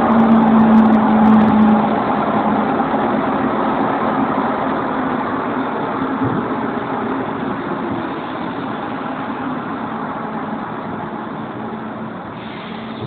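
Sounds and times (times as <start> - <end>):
metro train running: 0.0 - 13.0.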